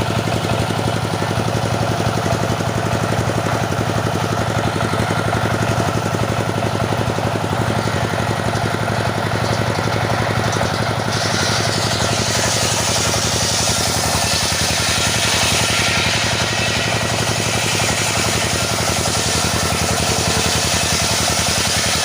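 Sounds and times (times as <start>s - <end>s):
saw cutting wood hiss: 0.0s - 22.0s
saw engine running: 0.0s - 22.0s.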